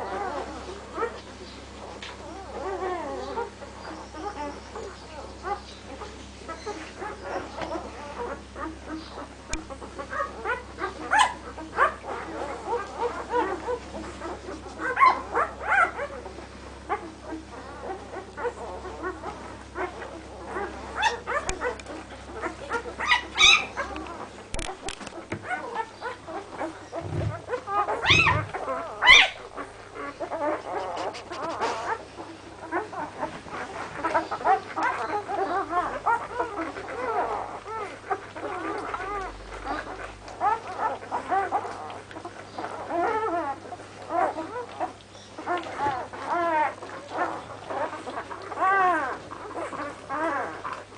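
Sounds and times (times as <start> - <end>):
puppies squeaking and whimpering: 0.0 - 50.9.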